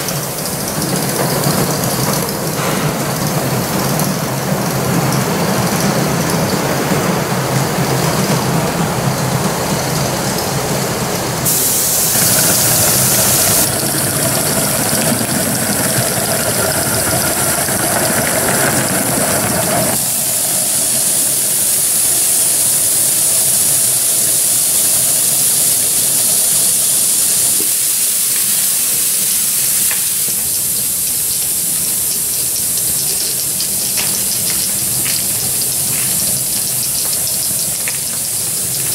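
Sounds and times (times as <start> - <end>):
wheels rumbling on track: 0.0 - 24.0, 30.4 - 38.9
steam hissing: 0.0 - 38.9.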